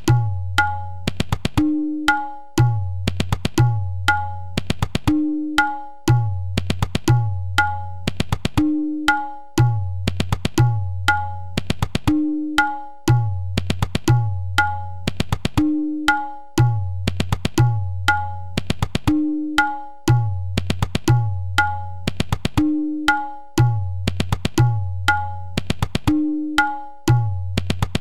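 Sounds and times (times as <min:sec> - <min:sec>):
tabla playing: 0:00.0 - 0:28.0.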